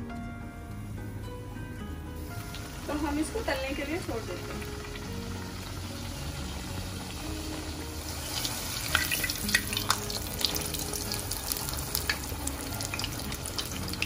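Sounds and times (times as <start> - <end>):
dough frying in hot fat: 2.2 - 14.0.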